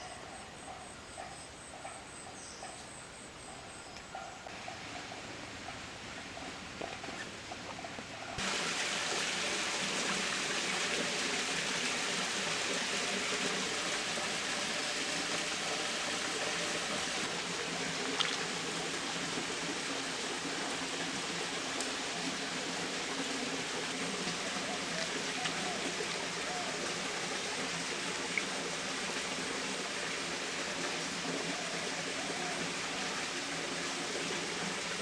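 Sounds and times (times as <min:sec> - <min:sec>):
creek water flowing: 0:04.5 - 0:35.0.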